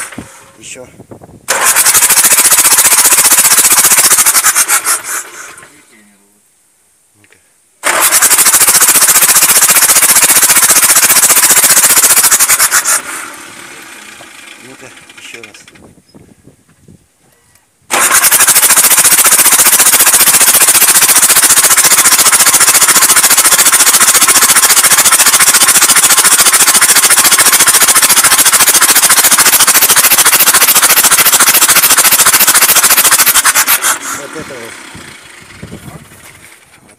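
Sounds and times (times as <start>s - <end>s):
diesel engine clattering: 1.5s - 5.7s, 7.8s - 16.0s, 17.9s - 36.9s.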